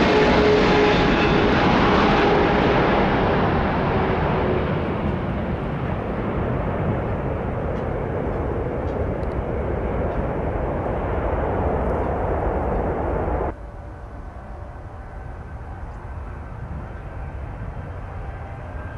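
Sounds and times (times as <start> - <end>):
airliner engine noise: 0.0 - 18.9.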